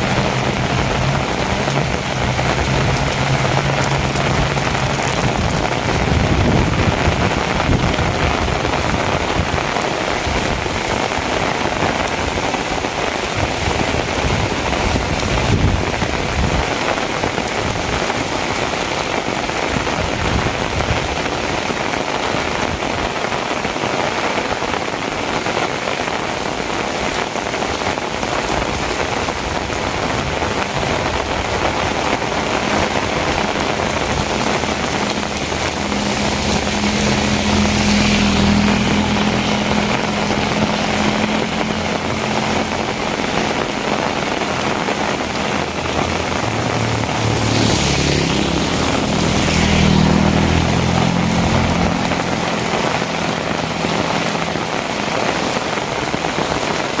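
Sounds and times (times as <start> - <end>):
vehicle engine hum passing: 0.0 - 19.4, 27.8 - 57.0
heavy rain on hard surfaces: 0.0 - 57.0.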